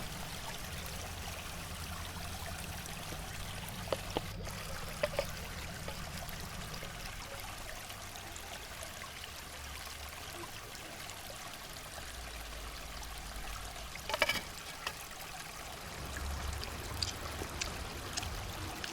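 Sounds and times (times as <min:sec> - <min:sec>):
river water flowing: 0:00.0 - 0:18.9.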